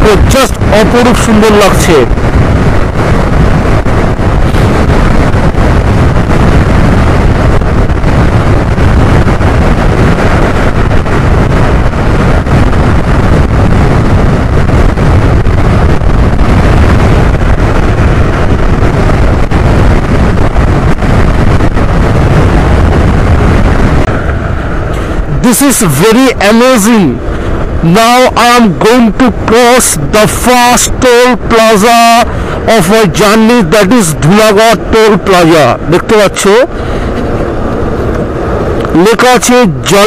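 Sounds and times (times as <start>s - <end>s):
scooter and road rumble: 0.0s - 40.0s
wind buffeting microphone: 0.0s - 40.0s.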